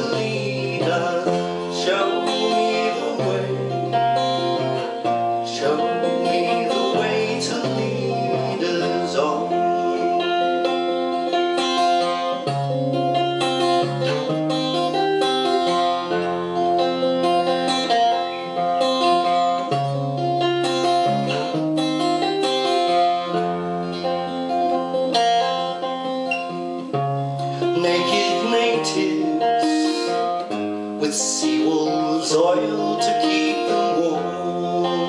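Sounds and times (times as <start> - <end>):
acoustic guitar picking: 0.0 - 35.0.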